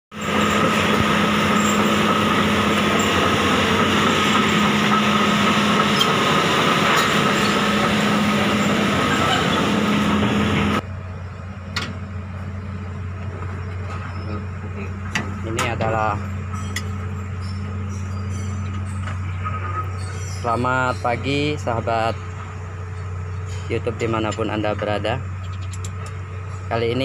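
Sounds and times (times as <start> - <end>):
heavy machinery drone: 0.1 - 27.0
low hum: 0.1 - 27.0.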